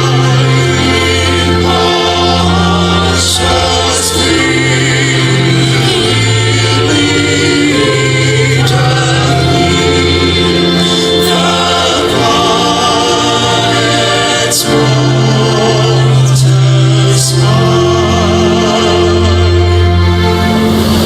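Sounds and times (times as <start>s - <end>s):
youth choir singing gospel: 0.0s - 21.0s.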